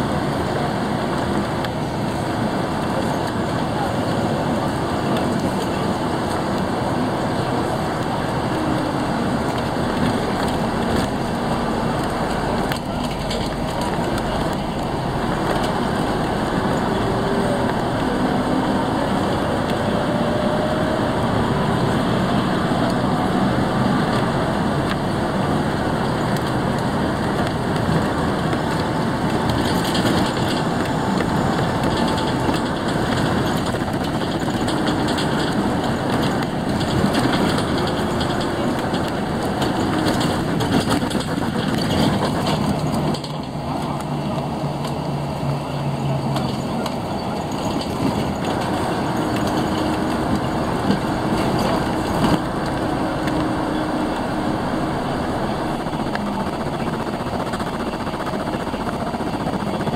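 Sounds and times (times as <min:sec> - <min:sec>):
road traffic passing close: 0:00.0 - 0:59.9.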